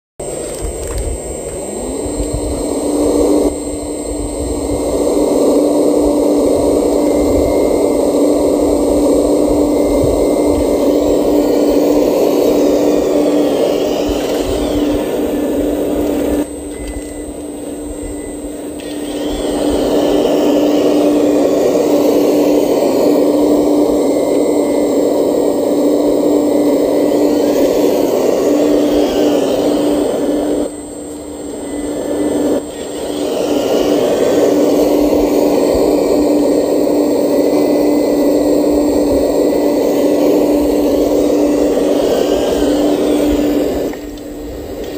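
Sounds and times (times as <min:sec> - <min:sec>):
electric motors whining: 0:00.2 - 0:44.9.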